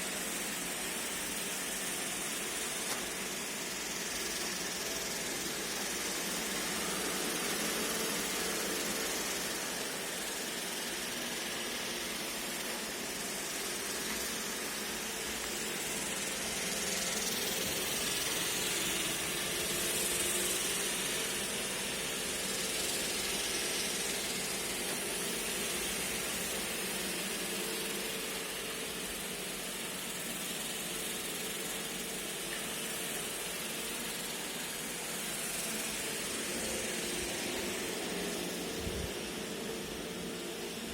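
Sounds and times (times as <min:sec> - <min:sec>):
robot vacuum running: 0:00.0 - 0:40.9.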